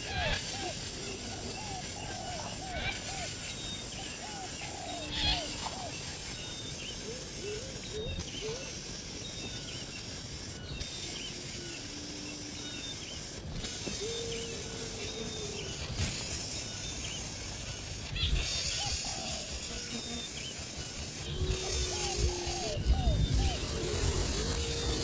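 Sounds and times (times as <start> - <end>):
steady high hiss: 0.0 - 25.0.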